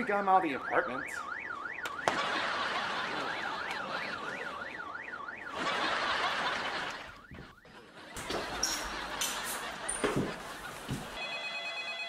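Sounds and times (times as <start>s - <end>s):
car alarm siren sweeping: 0.0s - 9.9s.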